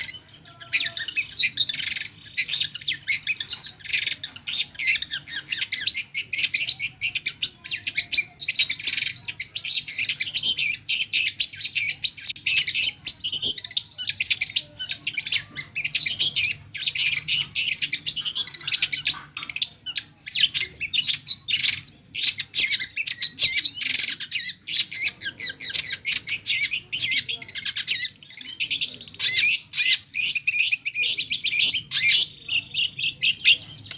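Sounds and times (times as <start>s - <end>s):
shrike singing varied chirps: 0.0s - 33.9s.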